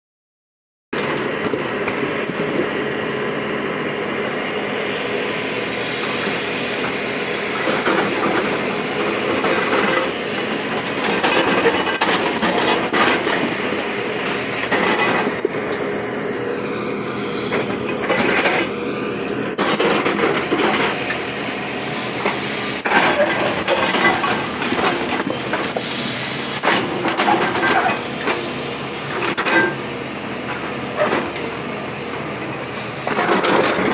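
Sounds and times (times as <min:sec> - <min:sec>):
bulldozer diesel engine running: 0:01.0 - 0:33.9.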